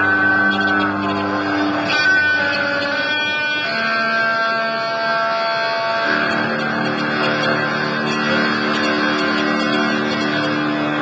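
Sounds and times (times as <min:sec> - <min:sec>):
music with sustained notes: 0:00.0 - 0:11.0.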